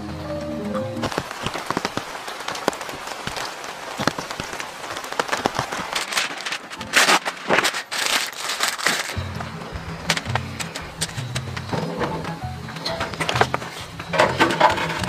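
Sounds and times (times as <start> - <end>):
rain falling: 0.0 - 15.0
parchment paper rustling: 1.0 - 15.0.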